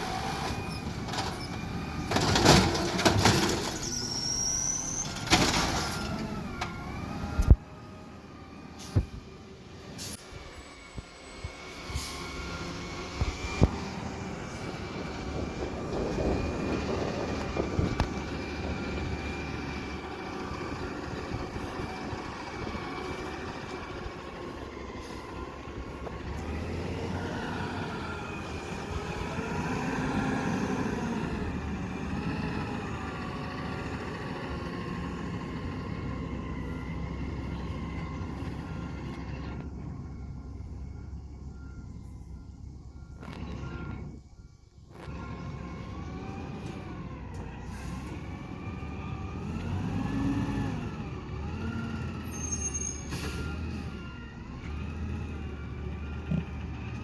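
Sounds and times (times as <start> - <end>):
garbage truck engine running: 0.0 - 9.8, 10.4 - 57.0.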